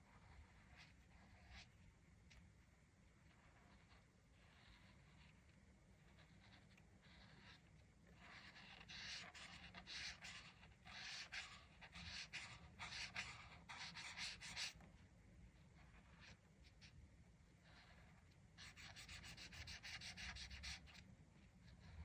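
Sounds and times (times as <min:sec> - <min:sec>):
colouring tool scratching on paper: 0:00.0 - 0:02.4, 0:03.1 - 0:14.9, 0:17.6 - 0:21.0, 0:21.6 - 0:22.0.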